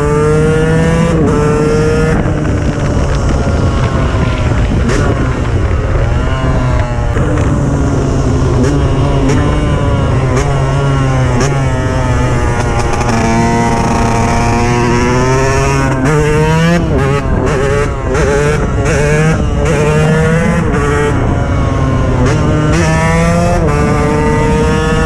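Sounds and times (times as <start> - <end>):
two-stroke motorcycle engine revving: 0.0 - 25.0.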